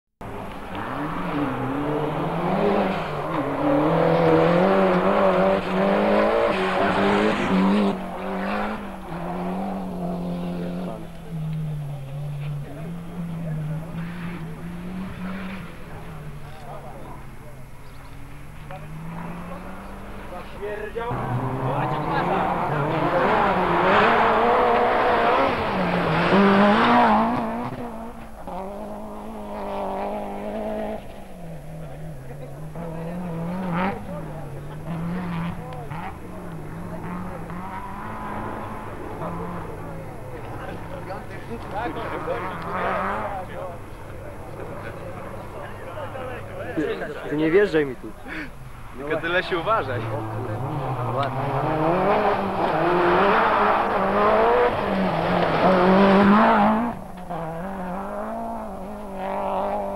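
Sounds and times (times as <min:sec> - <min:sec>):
rally car engine at full throttle: 0:00.2 - 0:59.9.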